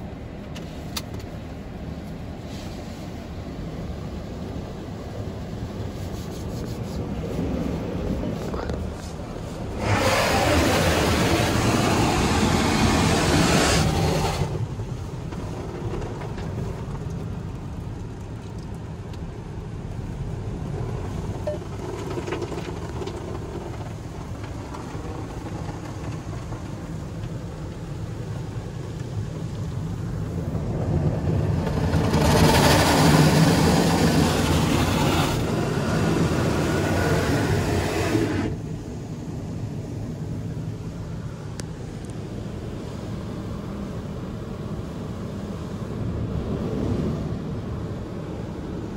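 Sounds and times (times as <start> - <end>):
car wash machine hum: 0.0 - 48.9
car wash water spray rushing: 0.0 - 48.9.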